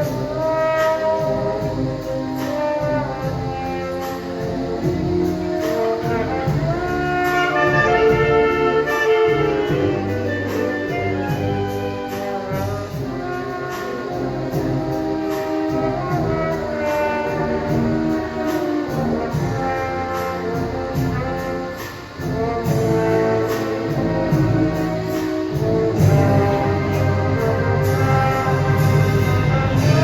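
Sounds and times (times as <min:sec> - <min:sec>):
marching band brass and drums: 0:00.0 - 0:30.0.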